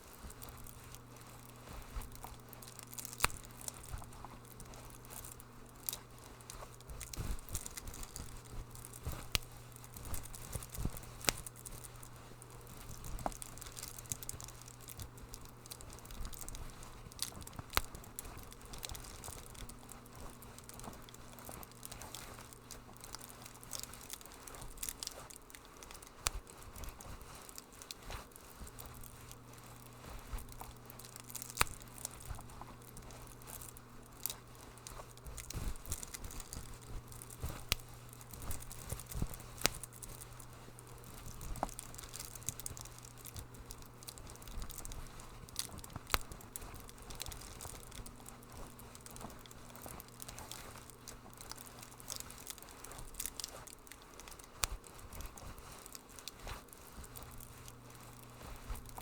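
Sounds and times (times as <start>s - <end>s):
steady low hum: 0.0s - 59.0s
wood fire crackling: 0.0s - 59.0s.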